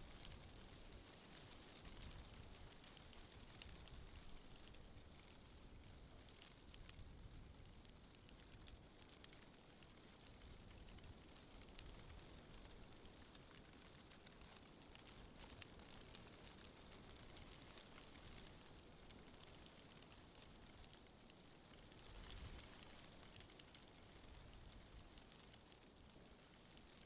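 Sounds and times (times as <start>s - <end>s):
faint steady wind: 0.0s - 27.0s
fine crackling ticks: 0.0s - 27.0s.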